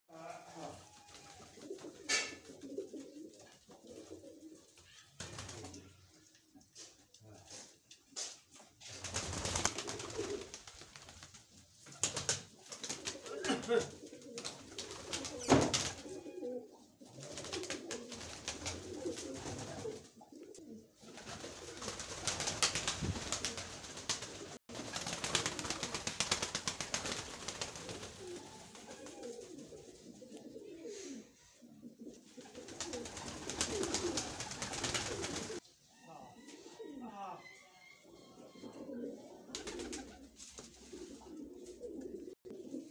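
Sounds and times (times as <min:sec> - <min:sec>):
pigeons cooing: 0:00.2 - 0:06.1, 0:09.4 - 0:10.6, 0:12.1 - 0:35.6, 0:37.9 - 0:42.9.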